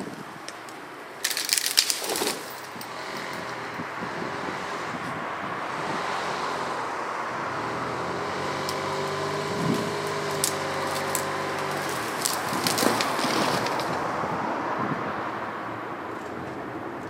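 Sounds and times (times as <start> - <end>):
truck engine humming: 0.4 - 17.0.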